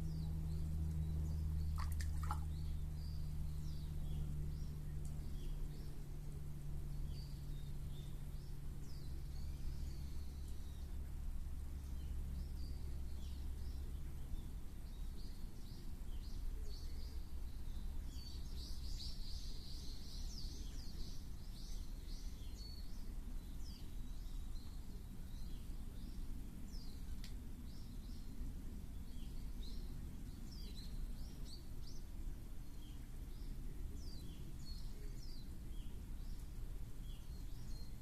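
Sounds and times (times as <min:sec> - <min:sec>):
low hum: 0:00.0 - 0:38.0
small birds chirping: 0:00.0 - 0:38.0
steady low rumble: 0:00.0 - 0:38.0.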